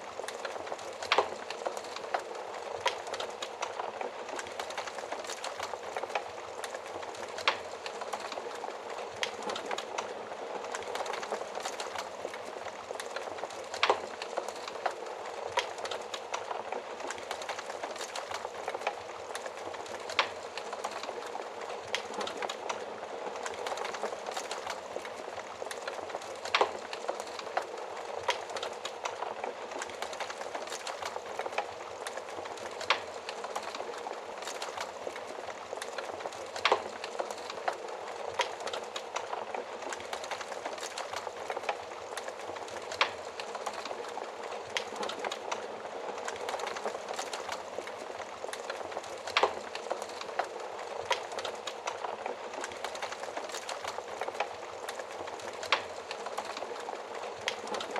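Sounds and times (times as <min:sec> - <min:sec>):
wood fire hissing and crackling: 0:00.0 - 0:57.9
fire popping: 0:00.2 - 0:57.9.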